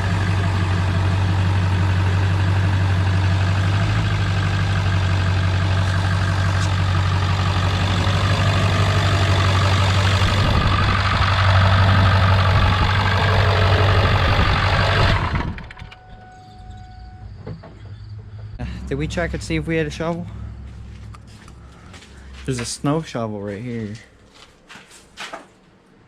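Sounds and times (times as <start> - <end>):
diesel engine idling: 0.0 - 24.1.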